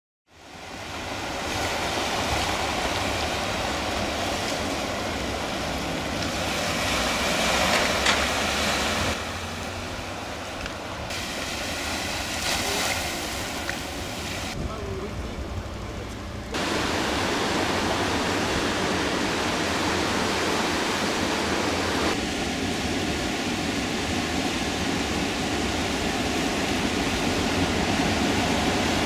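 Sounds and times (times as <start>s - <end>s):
ocean surf breaking: 0.3s - 29.0s
wind rumbling on microphone: 0.4s - 29.0s.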